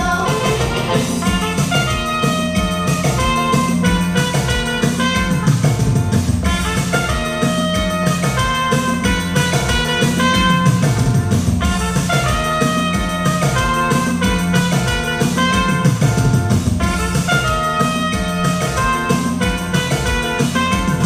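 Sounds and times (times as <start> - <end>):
upbeat instrumental music: 0.0 - 21.0.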